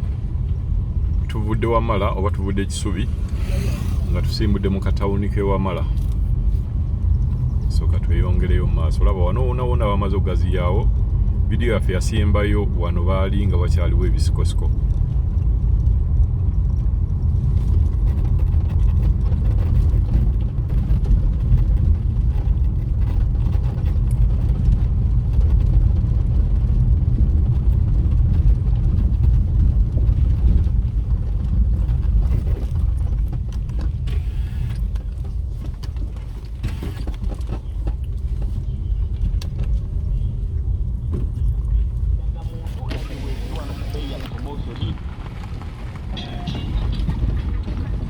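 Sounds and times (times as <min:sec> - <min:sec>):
vehicle driving rumble: 0:00.0 - 0:48.0.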